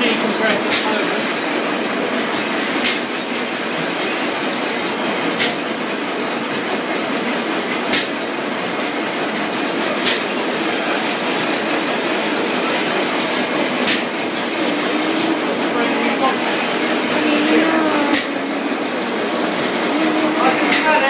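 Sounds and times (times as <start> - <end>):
stationary engine running: 0.0 - 21.0.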